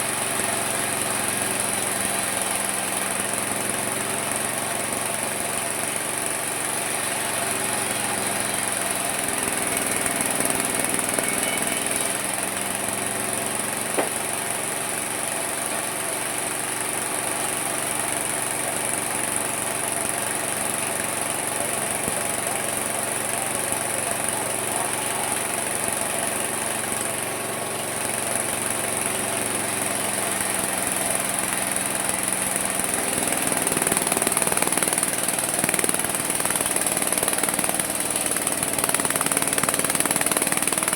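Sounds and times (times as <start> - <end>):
sawmill motor humming with hiss: 0.0 - 40.9.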